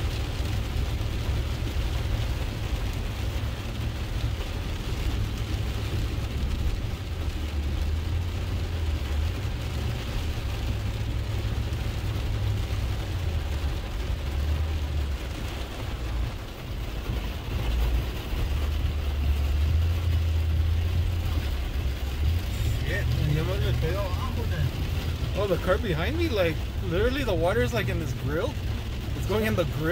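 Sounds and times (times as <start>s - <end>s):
truck engine and road rumble: 0.0s - 29.9s.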